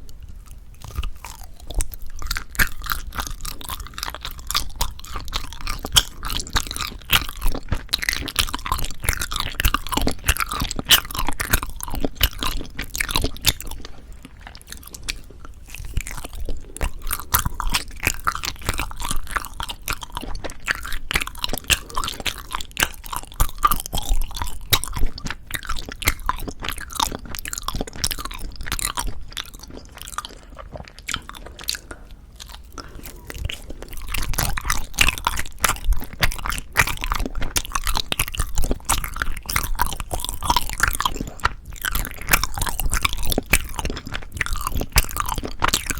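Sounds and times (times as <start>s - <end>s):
chewing with sticky mouth clicks: 0.0s - 45.9s.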